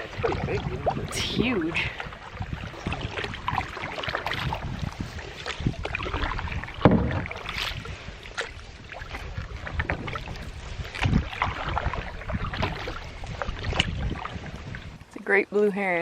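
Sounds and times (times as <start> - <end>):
paddles dipping and splashing: 0.0 - 16.0.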